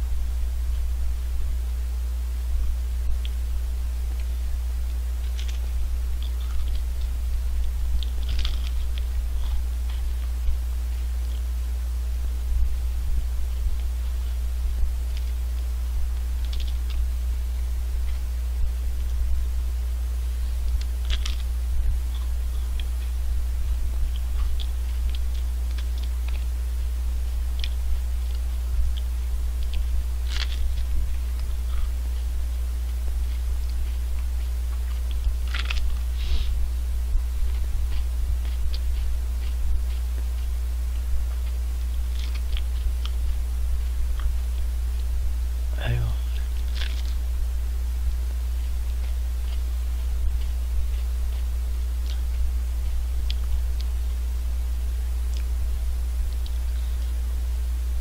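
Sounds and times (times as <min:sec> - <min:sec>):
low electrical hum: 0:00.0 - 0:58.0
crunching wafer cone: 0:00.1 - 0:58.0.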